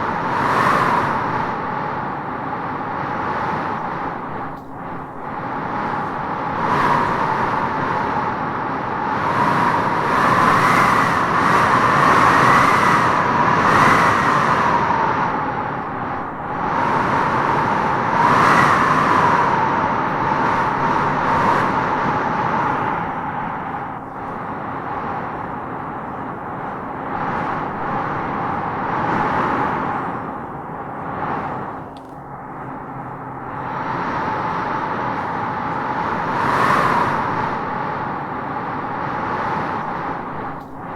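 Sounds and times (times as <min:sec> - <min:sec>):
whistling wind howl: 0:00.0 - 0:40.9
wind blowing in gusts: 0:00.0 - 0:40.9.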